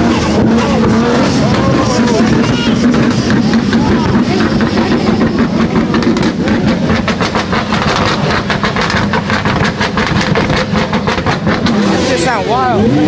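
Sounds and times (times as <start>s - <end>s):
vehicle engine rattling: 0.0s - 13.0s.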